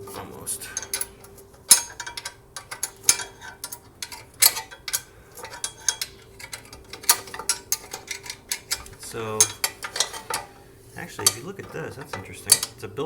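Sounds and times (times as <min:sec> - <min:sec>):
wrench clinking against nut: 0:00.0 - 0:13.0.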